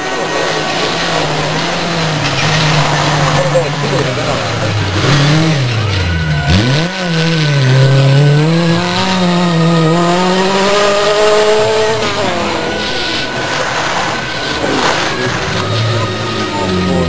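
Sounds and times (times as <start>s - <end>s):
rally car engine revving high: 0.0s - 17.0s.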